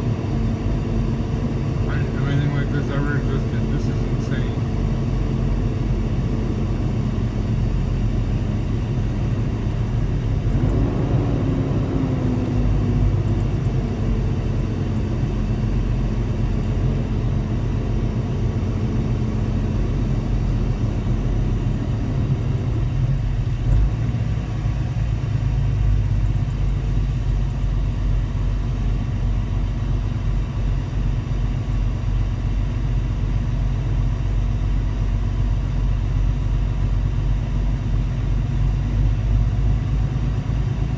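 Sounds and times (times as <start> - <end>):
diesel truck engine rumbling: 0.0 - 40.9.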